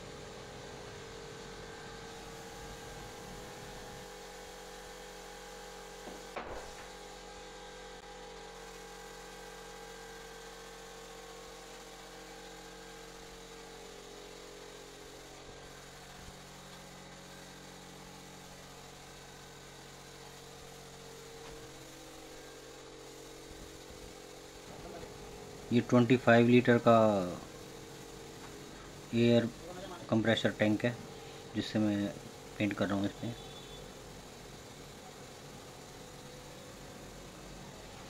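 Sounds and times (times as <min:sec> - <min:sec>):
air compressor running: 0:00.0 - 0:38.0
spray gun hissing: 0:01.4 - 0:07.1, 0:10.5 - 0:38.0.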